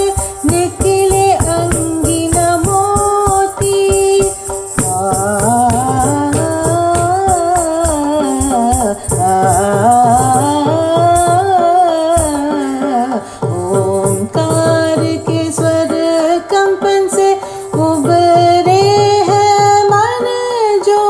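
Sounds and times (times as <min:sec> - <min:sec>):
drum strokes: 0:00.0 - 0:21.0
person singing devotional song: 0:00.0 - 0:21.0.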